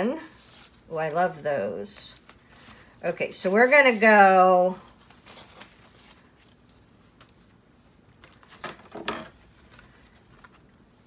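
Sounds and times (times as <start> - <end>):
paper rustling: 0.3 - 11.0.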